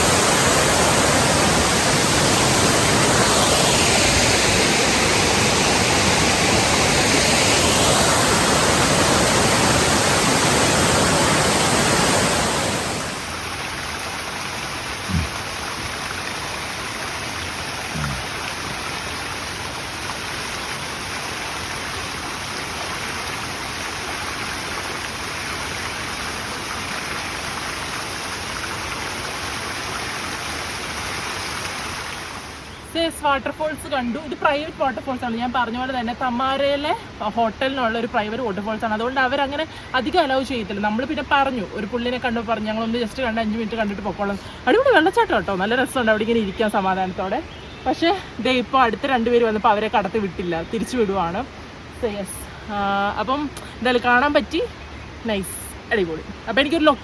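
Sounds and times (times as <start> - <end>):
large waterfall pouring: 0.0 - 54.5.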